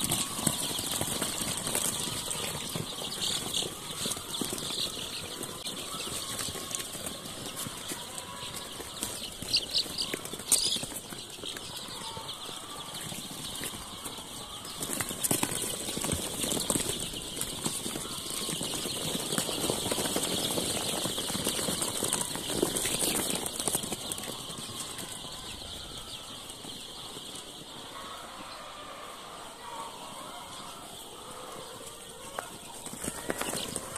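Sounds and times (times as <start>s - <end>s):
chicks peeping: 0.0s - 33.9s
chicks scurrying in wood shavings: 0.0s - 33.9s.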